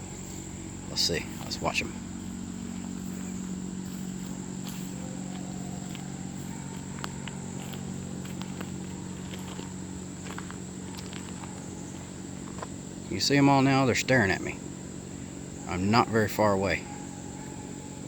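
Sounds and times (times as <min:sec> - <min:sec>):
insect drone: 0:00.0 - 0:18.0
low steady hum: 0:00.0 - 0:18.0.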